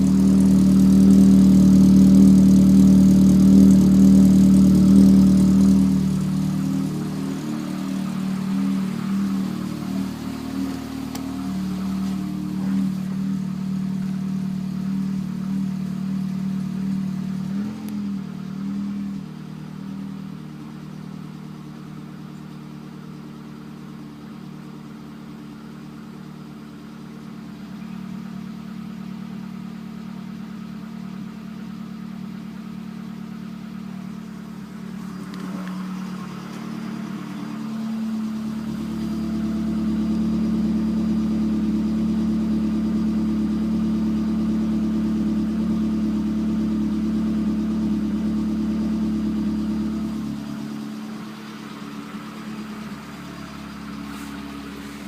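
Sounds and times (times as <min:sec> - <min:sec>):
car engine idling with knock: 0:00.0 - 0:55.0.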